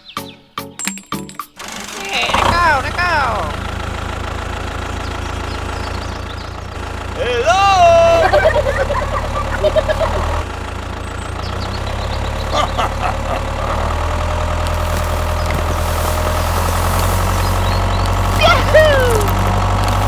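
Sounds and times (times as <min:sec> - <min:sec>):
machine humming: 0:01.6 - 0:11.0, 0:11.6 - 0:20.0.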